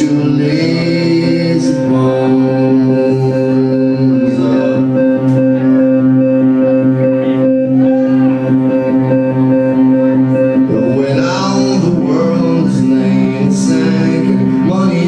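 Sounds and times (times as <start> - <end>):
guitar: 0.0 - 15.0
sung or sliding notes: 0.0 - 15.0
upright bass: 0.0 - 15.0.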